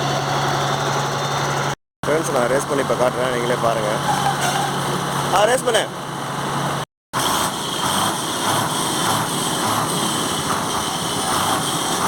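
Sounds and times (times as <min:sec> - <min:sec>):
diesel lorry engine revving: 0:00.0 - 0:12.0.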